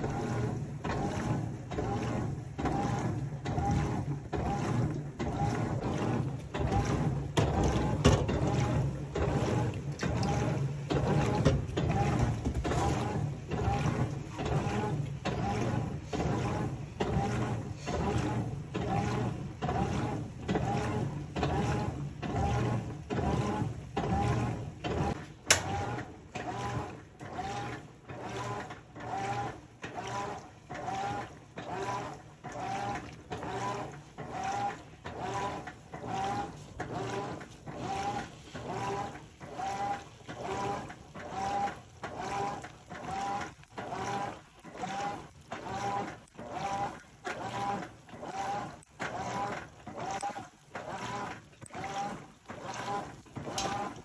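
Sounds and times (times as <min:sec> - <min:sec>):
washing machine agitating: 0:00.0 - 0:54.0.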